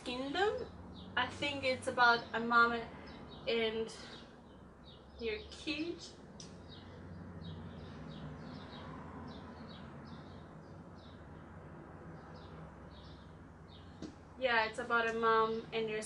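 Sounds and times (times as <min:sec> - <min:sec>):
bird chirping: 0:00.0 - 0:01.2, 0:03.0 - 0:15.8.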